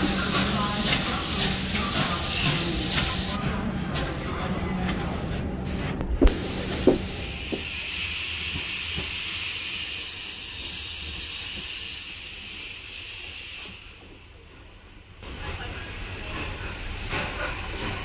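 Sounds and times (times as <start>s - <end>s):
steam hissing: 0.0s - 3.4s, 6.2s - 14.5s, 15.2s - 18.0s.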